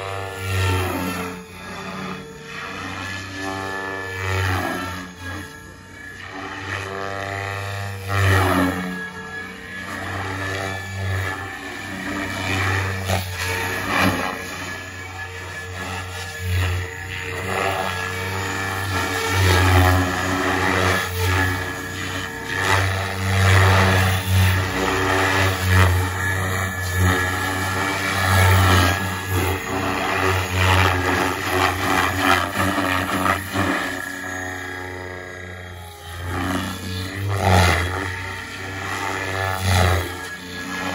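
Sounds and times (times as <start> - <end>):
rc helicopter rotor buzz: 0.0 - 40.9.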